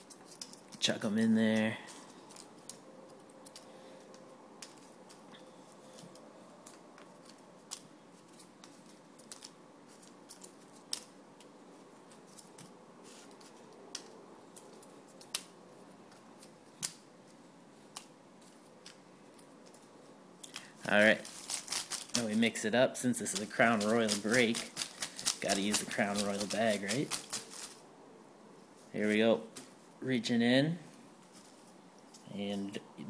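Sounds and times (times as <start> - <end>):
paper squares handled: 0.0 - 27.8.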